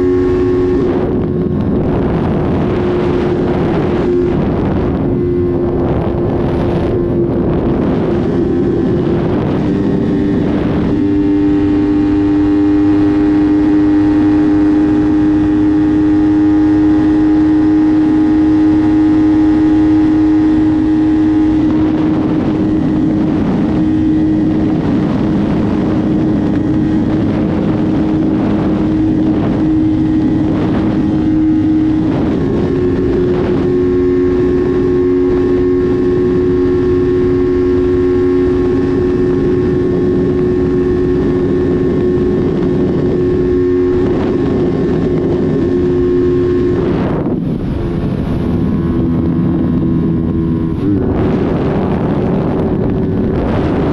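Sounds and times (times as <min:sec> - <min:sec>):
motorcycle engine running: 0:00.0 - 0:53.9
wind buffeting microphone: 0:00.0 - 0:53.9.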